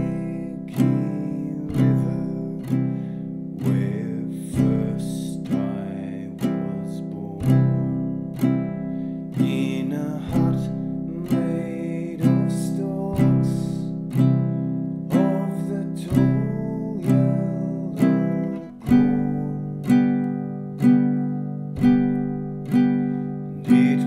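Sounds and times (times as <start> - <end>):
ukulele strumming: 0.0 - 24.0.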